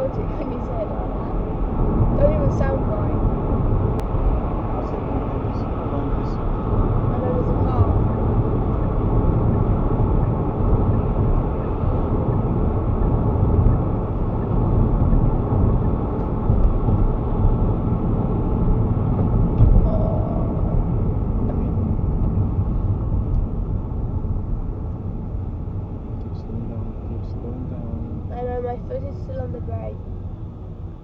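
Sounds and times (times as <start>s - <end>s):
car engine: 0.0s - 31.0s
road and tyre noise: 0.0s - 31.0s.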